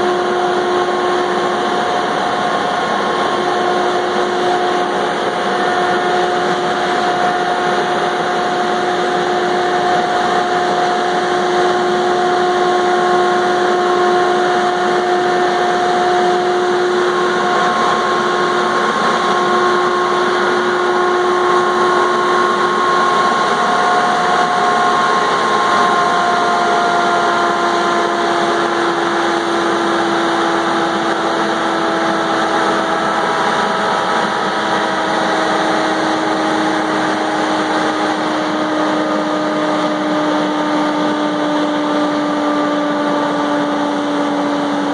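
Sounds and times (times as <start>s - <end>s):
diesel engine running: 0.0s - 44.9s
steady whine: 0.0s - 44.9s.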